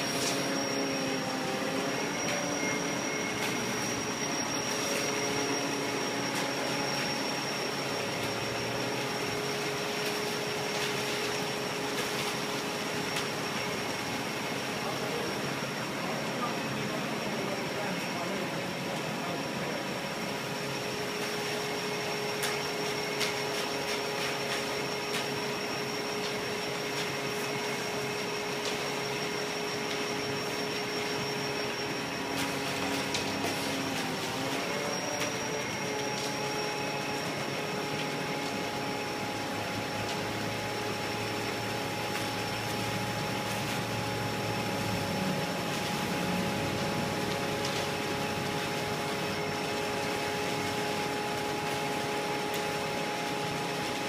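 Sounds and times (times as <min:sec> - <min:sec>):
machine drone with high whine: 0:00.0 - 0:54.0.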